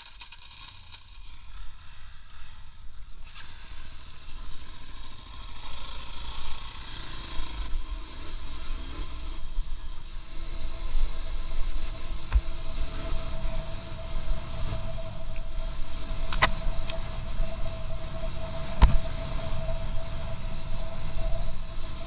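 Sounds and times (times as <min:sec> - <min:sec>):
moving vehicle rumble: 0:00.0 - 0:22.0.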